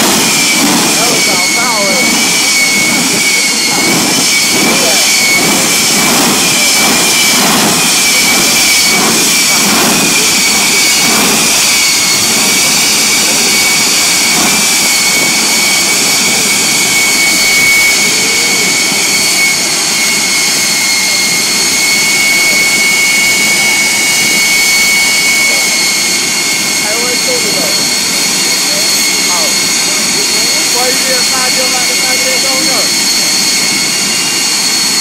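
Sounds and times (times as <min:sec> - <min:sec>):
jet engine roaring: 0:00.0 - 0:35.0.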